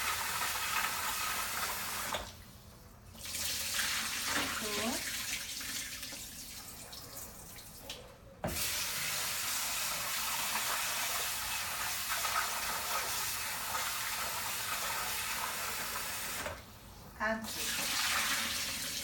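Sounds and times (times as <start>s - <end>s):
tap water running into container: 0.0s - 2.5s, 3.1s - 16.7s, 17.4s - 19.0s.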